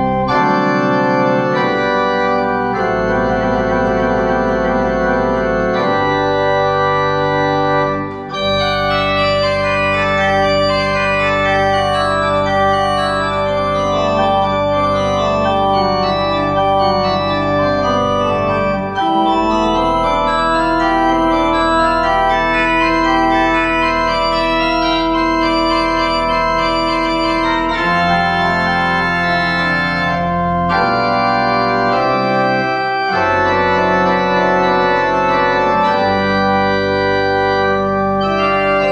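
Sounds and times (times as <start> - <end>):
church organ playing: 0.0 - 38.9.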